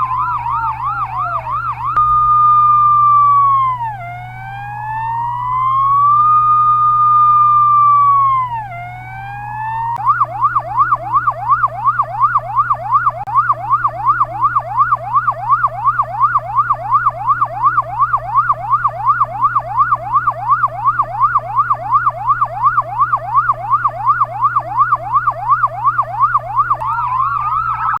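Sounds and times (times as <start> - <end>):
ambulance electronic siren: 0.0 - 28.0
steady low hum: 0.0 - 28.0.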